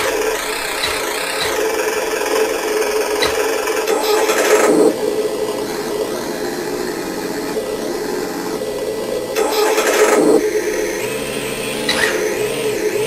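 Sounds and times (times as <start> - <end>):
simulated engine sound from speaker: 0.0 - 13.0.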